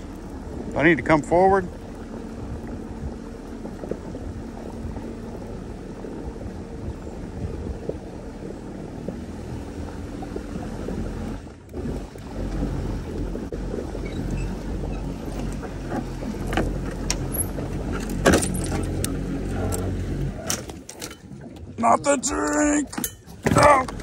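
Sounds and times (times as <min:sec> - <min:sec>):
water rushing around boat: 0:00.0 - 0:24.0
wind buffeting microphone: 0:00.0 - 0:24.0.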